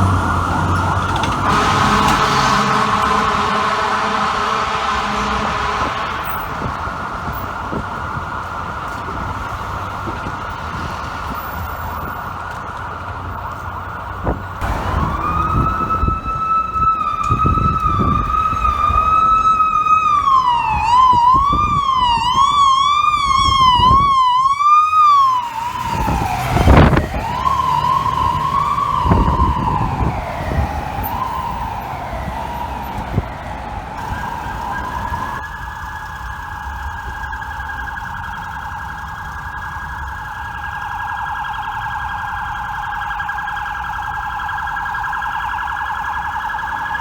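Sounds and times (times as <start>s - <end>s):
siren horn blast: 0.0s - 12.6s, 13.8s - 47.0s
emergency vehicle siren: 0.0s - 47.0s
low traffic rumble: 0.0s - 47.0s.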